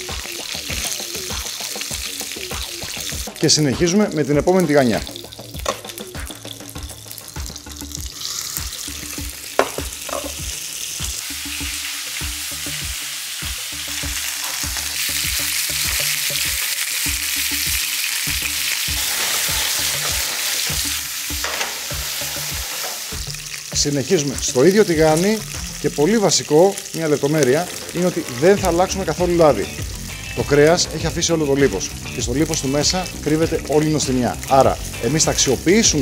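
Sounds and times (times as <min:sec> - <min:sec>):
meat sizzling in a frying pan: 0:00.0 - 0:36.0.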